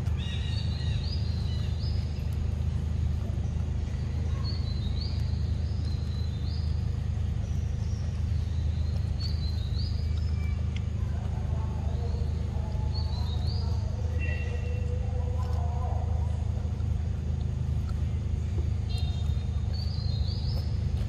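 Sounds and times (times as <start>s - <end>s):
low forest rumble: 0.0s - 21.0s.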